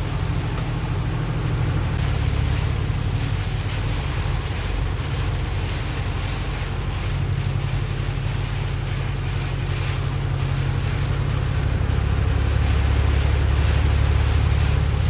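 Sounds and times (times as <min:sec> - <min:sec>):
road and wind noise: 0:00.0 - 0:15.0
vehicle engine hum: 0:00.0 - 0:15.0.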